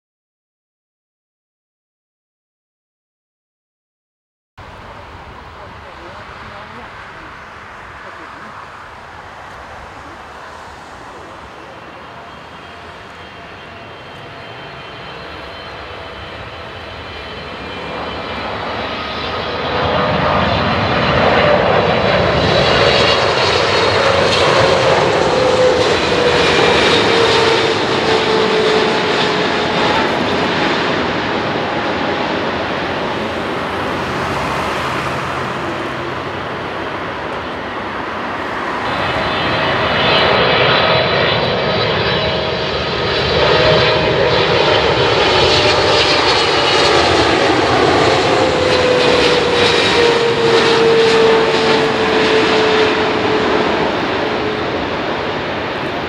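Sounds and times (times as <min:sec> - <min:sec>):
jet airliner landing: 0:04.6 - 0:56.0.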